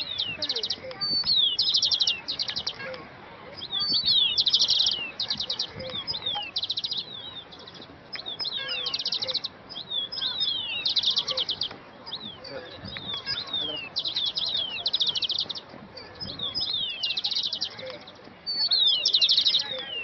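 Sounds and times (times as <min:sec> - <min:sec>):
songbirds chirping and singing: 0:00.0 - 0:20.0.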